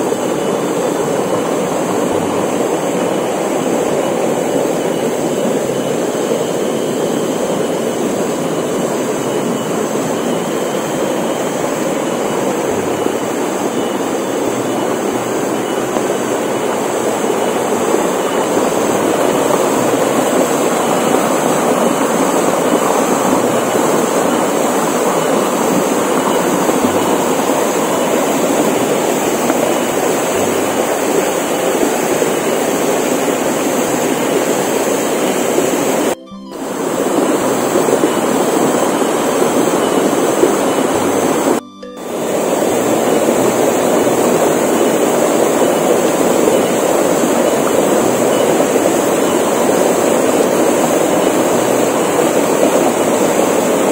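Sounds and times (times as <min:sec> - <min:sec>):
water rushing over rocks: 0:00.0 - 0:53.9.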